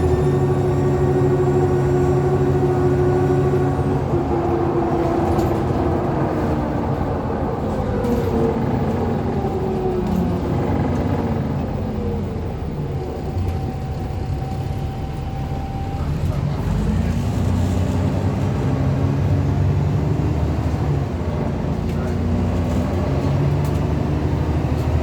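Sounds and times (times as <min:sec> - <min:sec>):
bus engine pulling: 0:00.0 - 0:25.0
groaning differential tones: 0:00.0 - 0:25.0.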